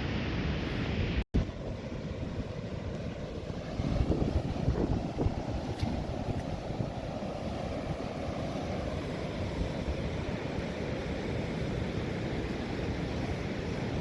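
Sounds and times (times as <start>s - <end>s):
ocean surf washing onto beach: 0.0s - 14.0s
wind buffeting microphone: 1.4s - 14.0s.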